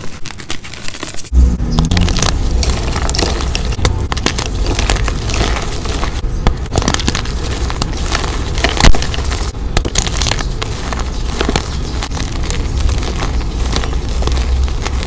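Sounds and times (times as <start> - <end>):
chalk blocks crunching: 0.0 - 15.0
steady low rumble: 1.3 - 15.0.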